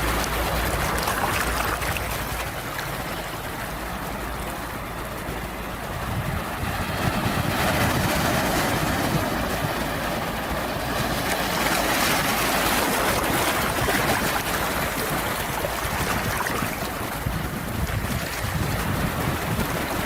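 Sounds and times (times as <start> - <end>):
sea waves washing ashore: 0.0 - 20.0.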